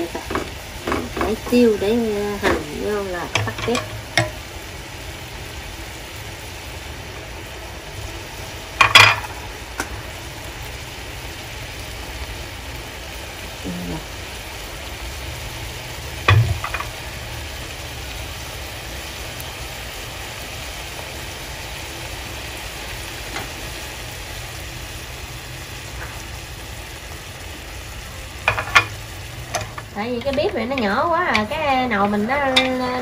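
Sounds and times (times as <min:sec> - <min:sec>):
sauce simmering and sizzling: 0:00.0 - 0:33.0.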